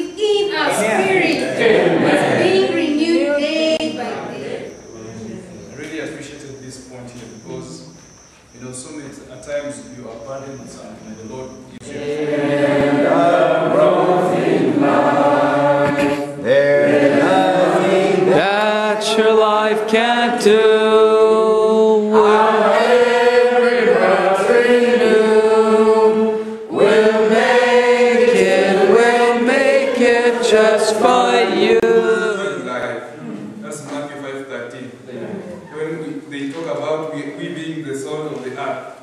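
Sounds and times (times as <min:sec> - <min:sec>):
congregation singing: 0:00.0 - 0:08.0, 0:10.3 - 0:36.0.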